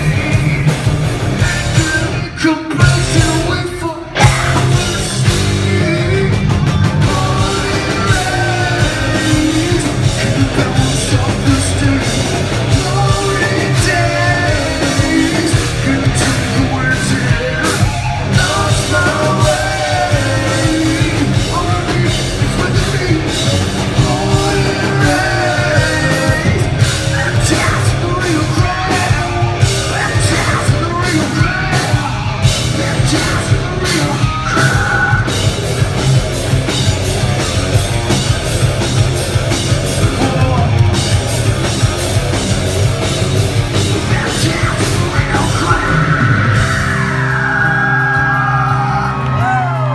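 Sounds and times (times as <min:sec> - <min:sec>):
man singing and yelling: 0:00.0 - 0:35.5, 0:39.9 - 0:41.1, 0:43.6 - 0:49.9
bass guitar: 0:00.0 - 0:49.9
distorted electric guitars: 0:00.0 - 0:49.9
drum kit: 0:00.0 - 0:49.9.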